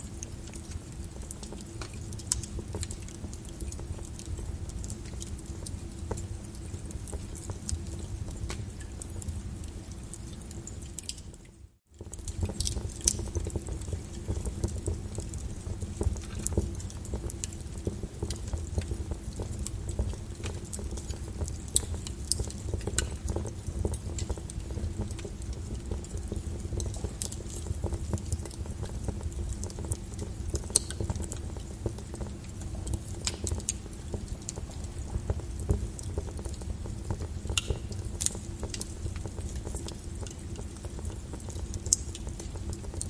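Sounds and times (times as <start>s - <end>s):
steady rain: 0.0s - 43.0s
wood fire crackling: 0.0s - 43.0s.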